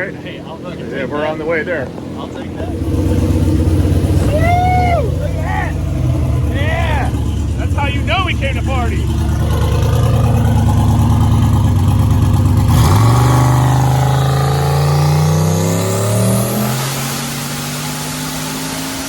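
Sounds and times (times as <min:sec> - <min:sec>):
high turbo whine: 0:00.0 - 0:19.0
loud car engine running: 0:00.0 - 0:19.0.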